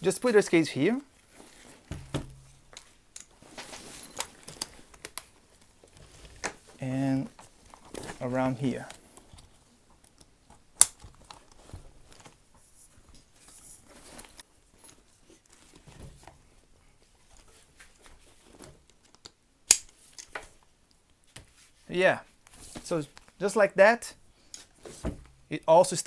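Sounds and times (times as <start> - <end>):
straps and fabric rustling: 0.0 - 19.1, 20.0 - 23.4.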